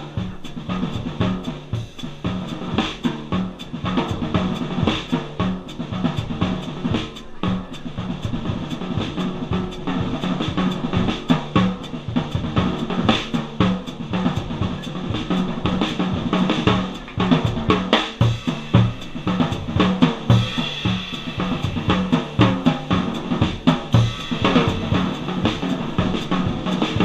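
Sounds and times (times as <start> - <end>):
drum kit solo: 0.0 - 27.0.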